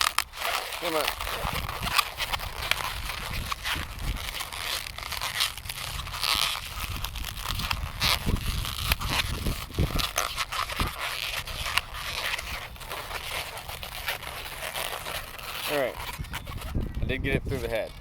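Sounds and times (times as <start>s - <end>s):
balloons squeaking and rubbing: 0.0s - 18.0s
sharp balloon crackles: 0.0s - 18.0s.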